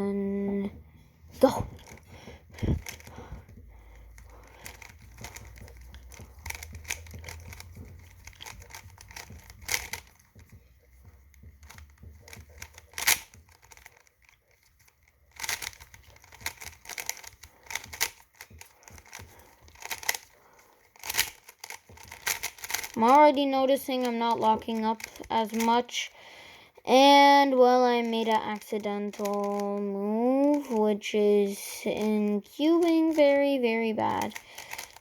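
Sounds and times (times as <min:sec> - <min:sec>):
speed cube clacking and clicking: 0:00.5 - 0:26.2, 0:26.9 - 0:35.0.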